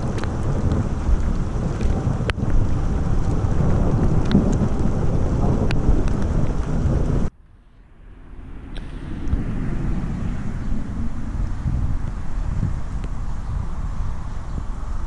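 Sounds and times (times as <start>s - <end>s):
heavy rain: 0.0s - 7.4s, 8.7s - 15.0s
low wind rumble: 0.0s - 15.0s
thunder rumbling: 0.0s - 15.0s.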